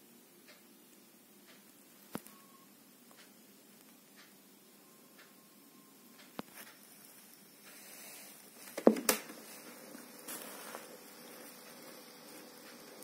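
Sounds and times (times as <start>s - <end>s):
tape hiss: 0.0s - 13.0s.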